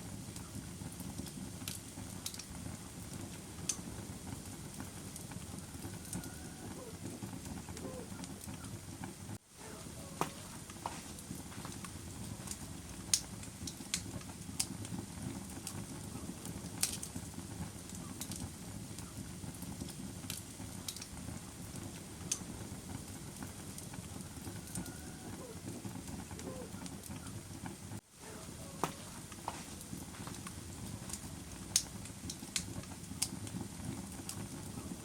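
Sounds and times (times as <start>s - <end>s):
fire crackling and popping: 0.0s - 35.0s
low rustle of burning: 0.0s - 35.0s.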